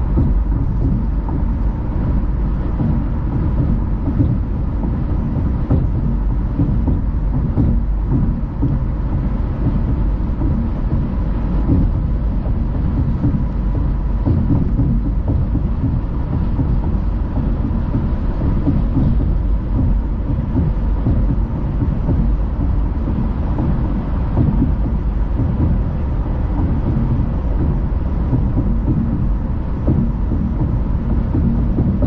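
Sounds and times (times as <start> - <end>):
car tyre and road noise: 0.0 - 32.0.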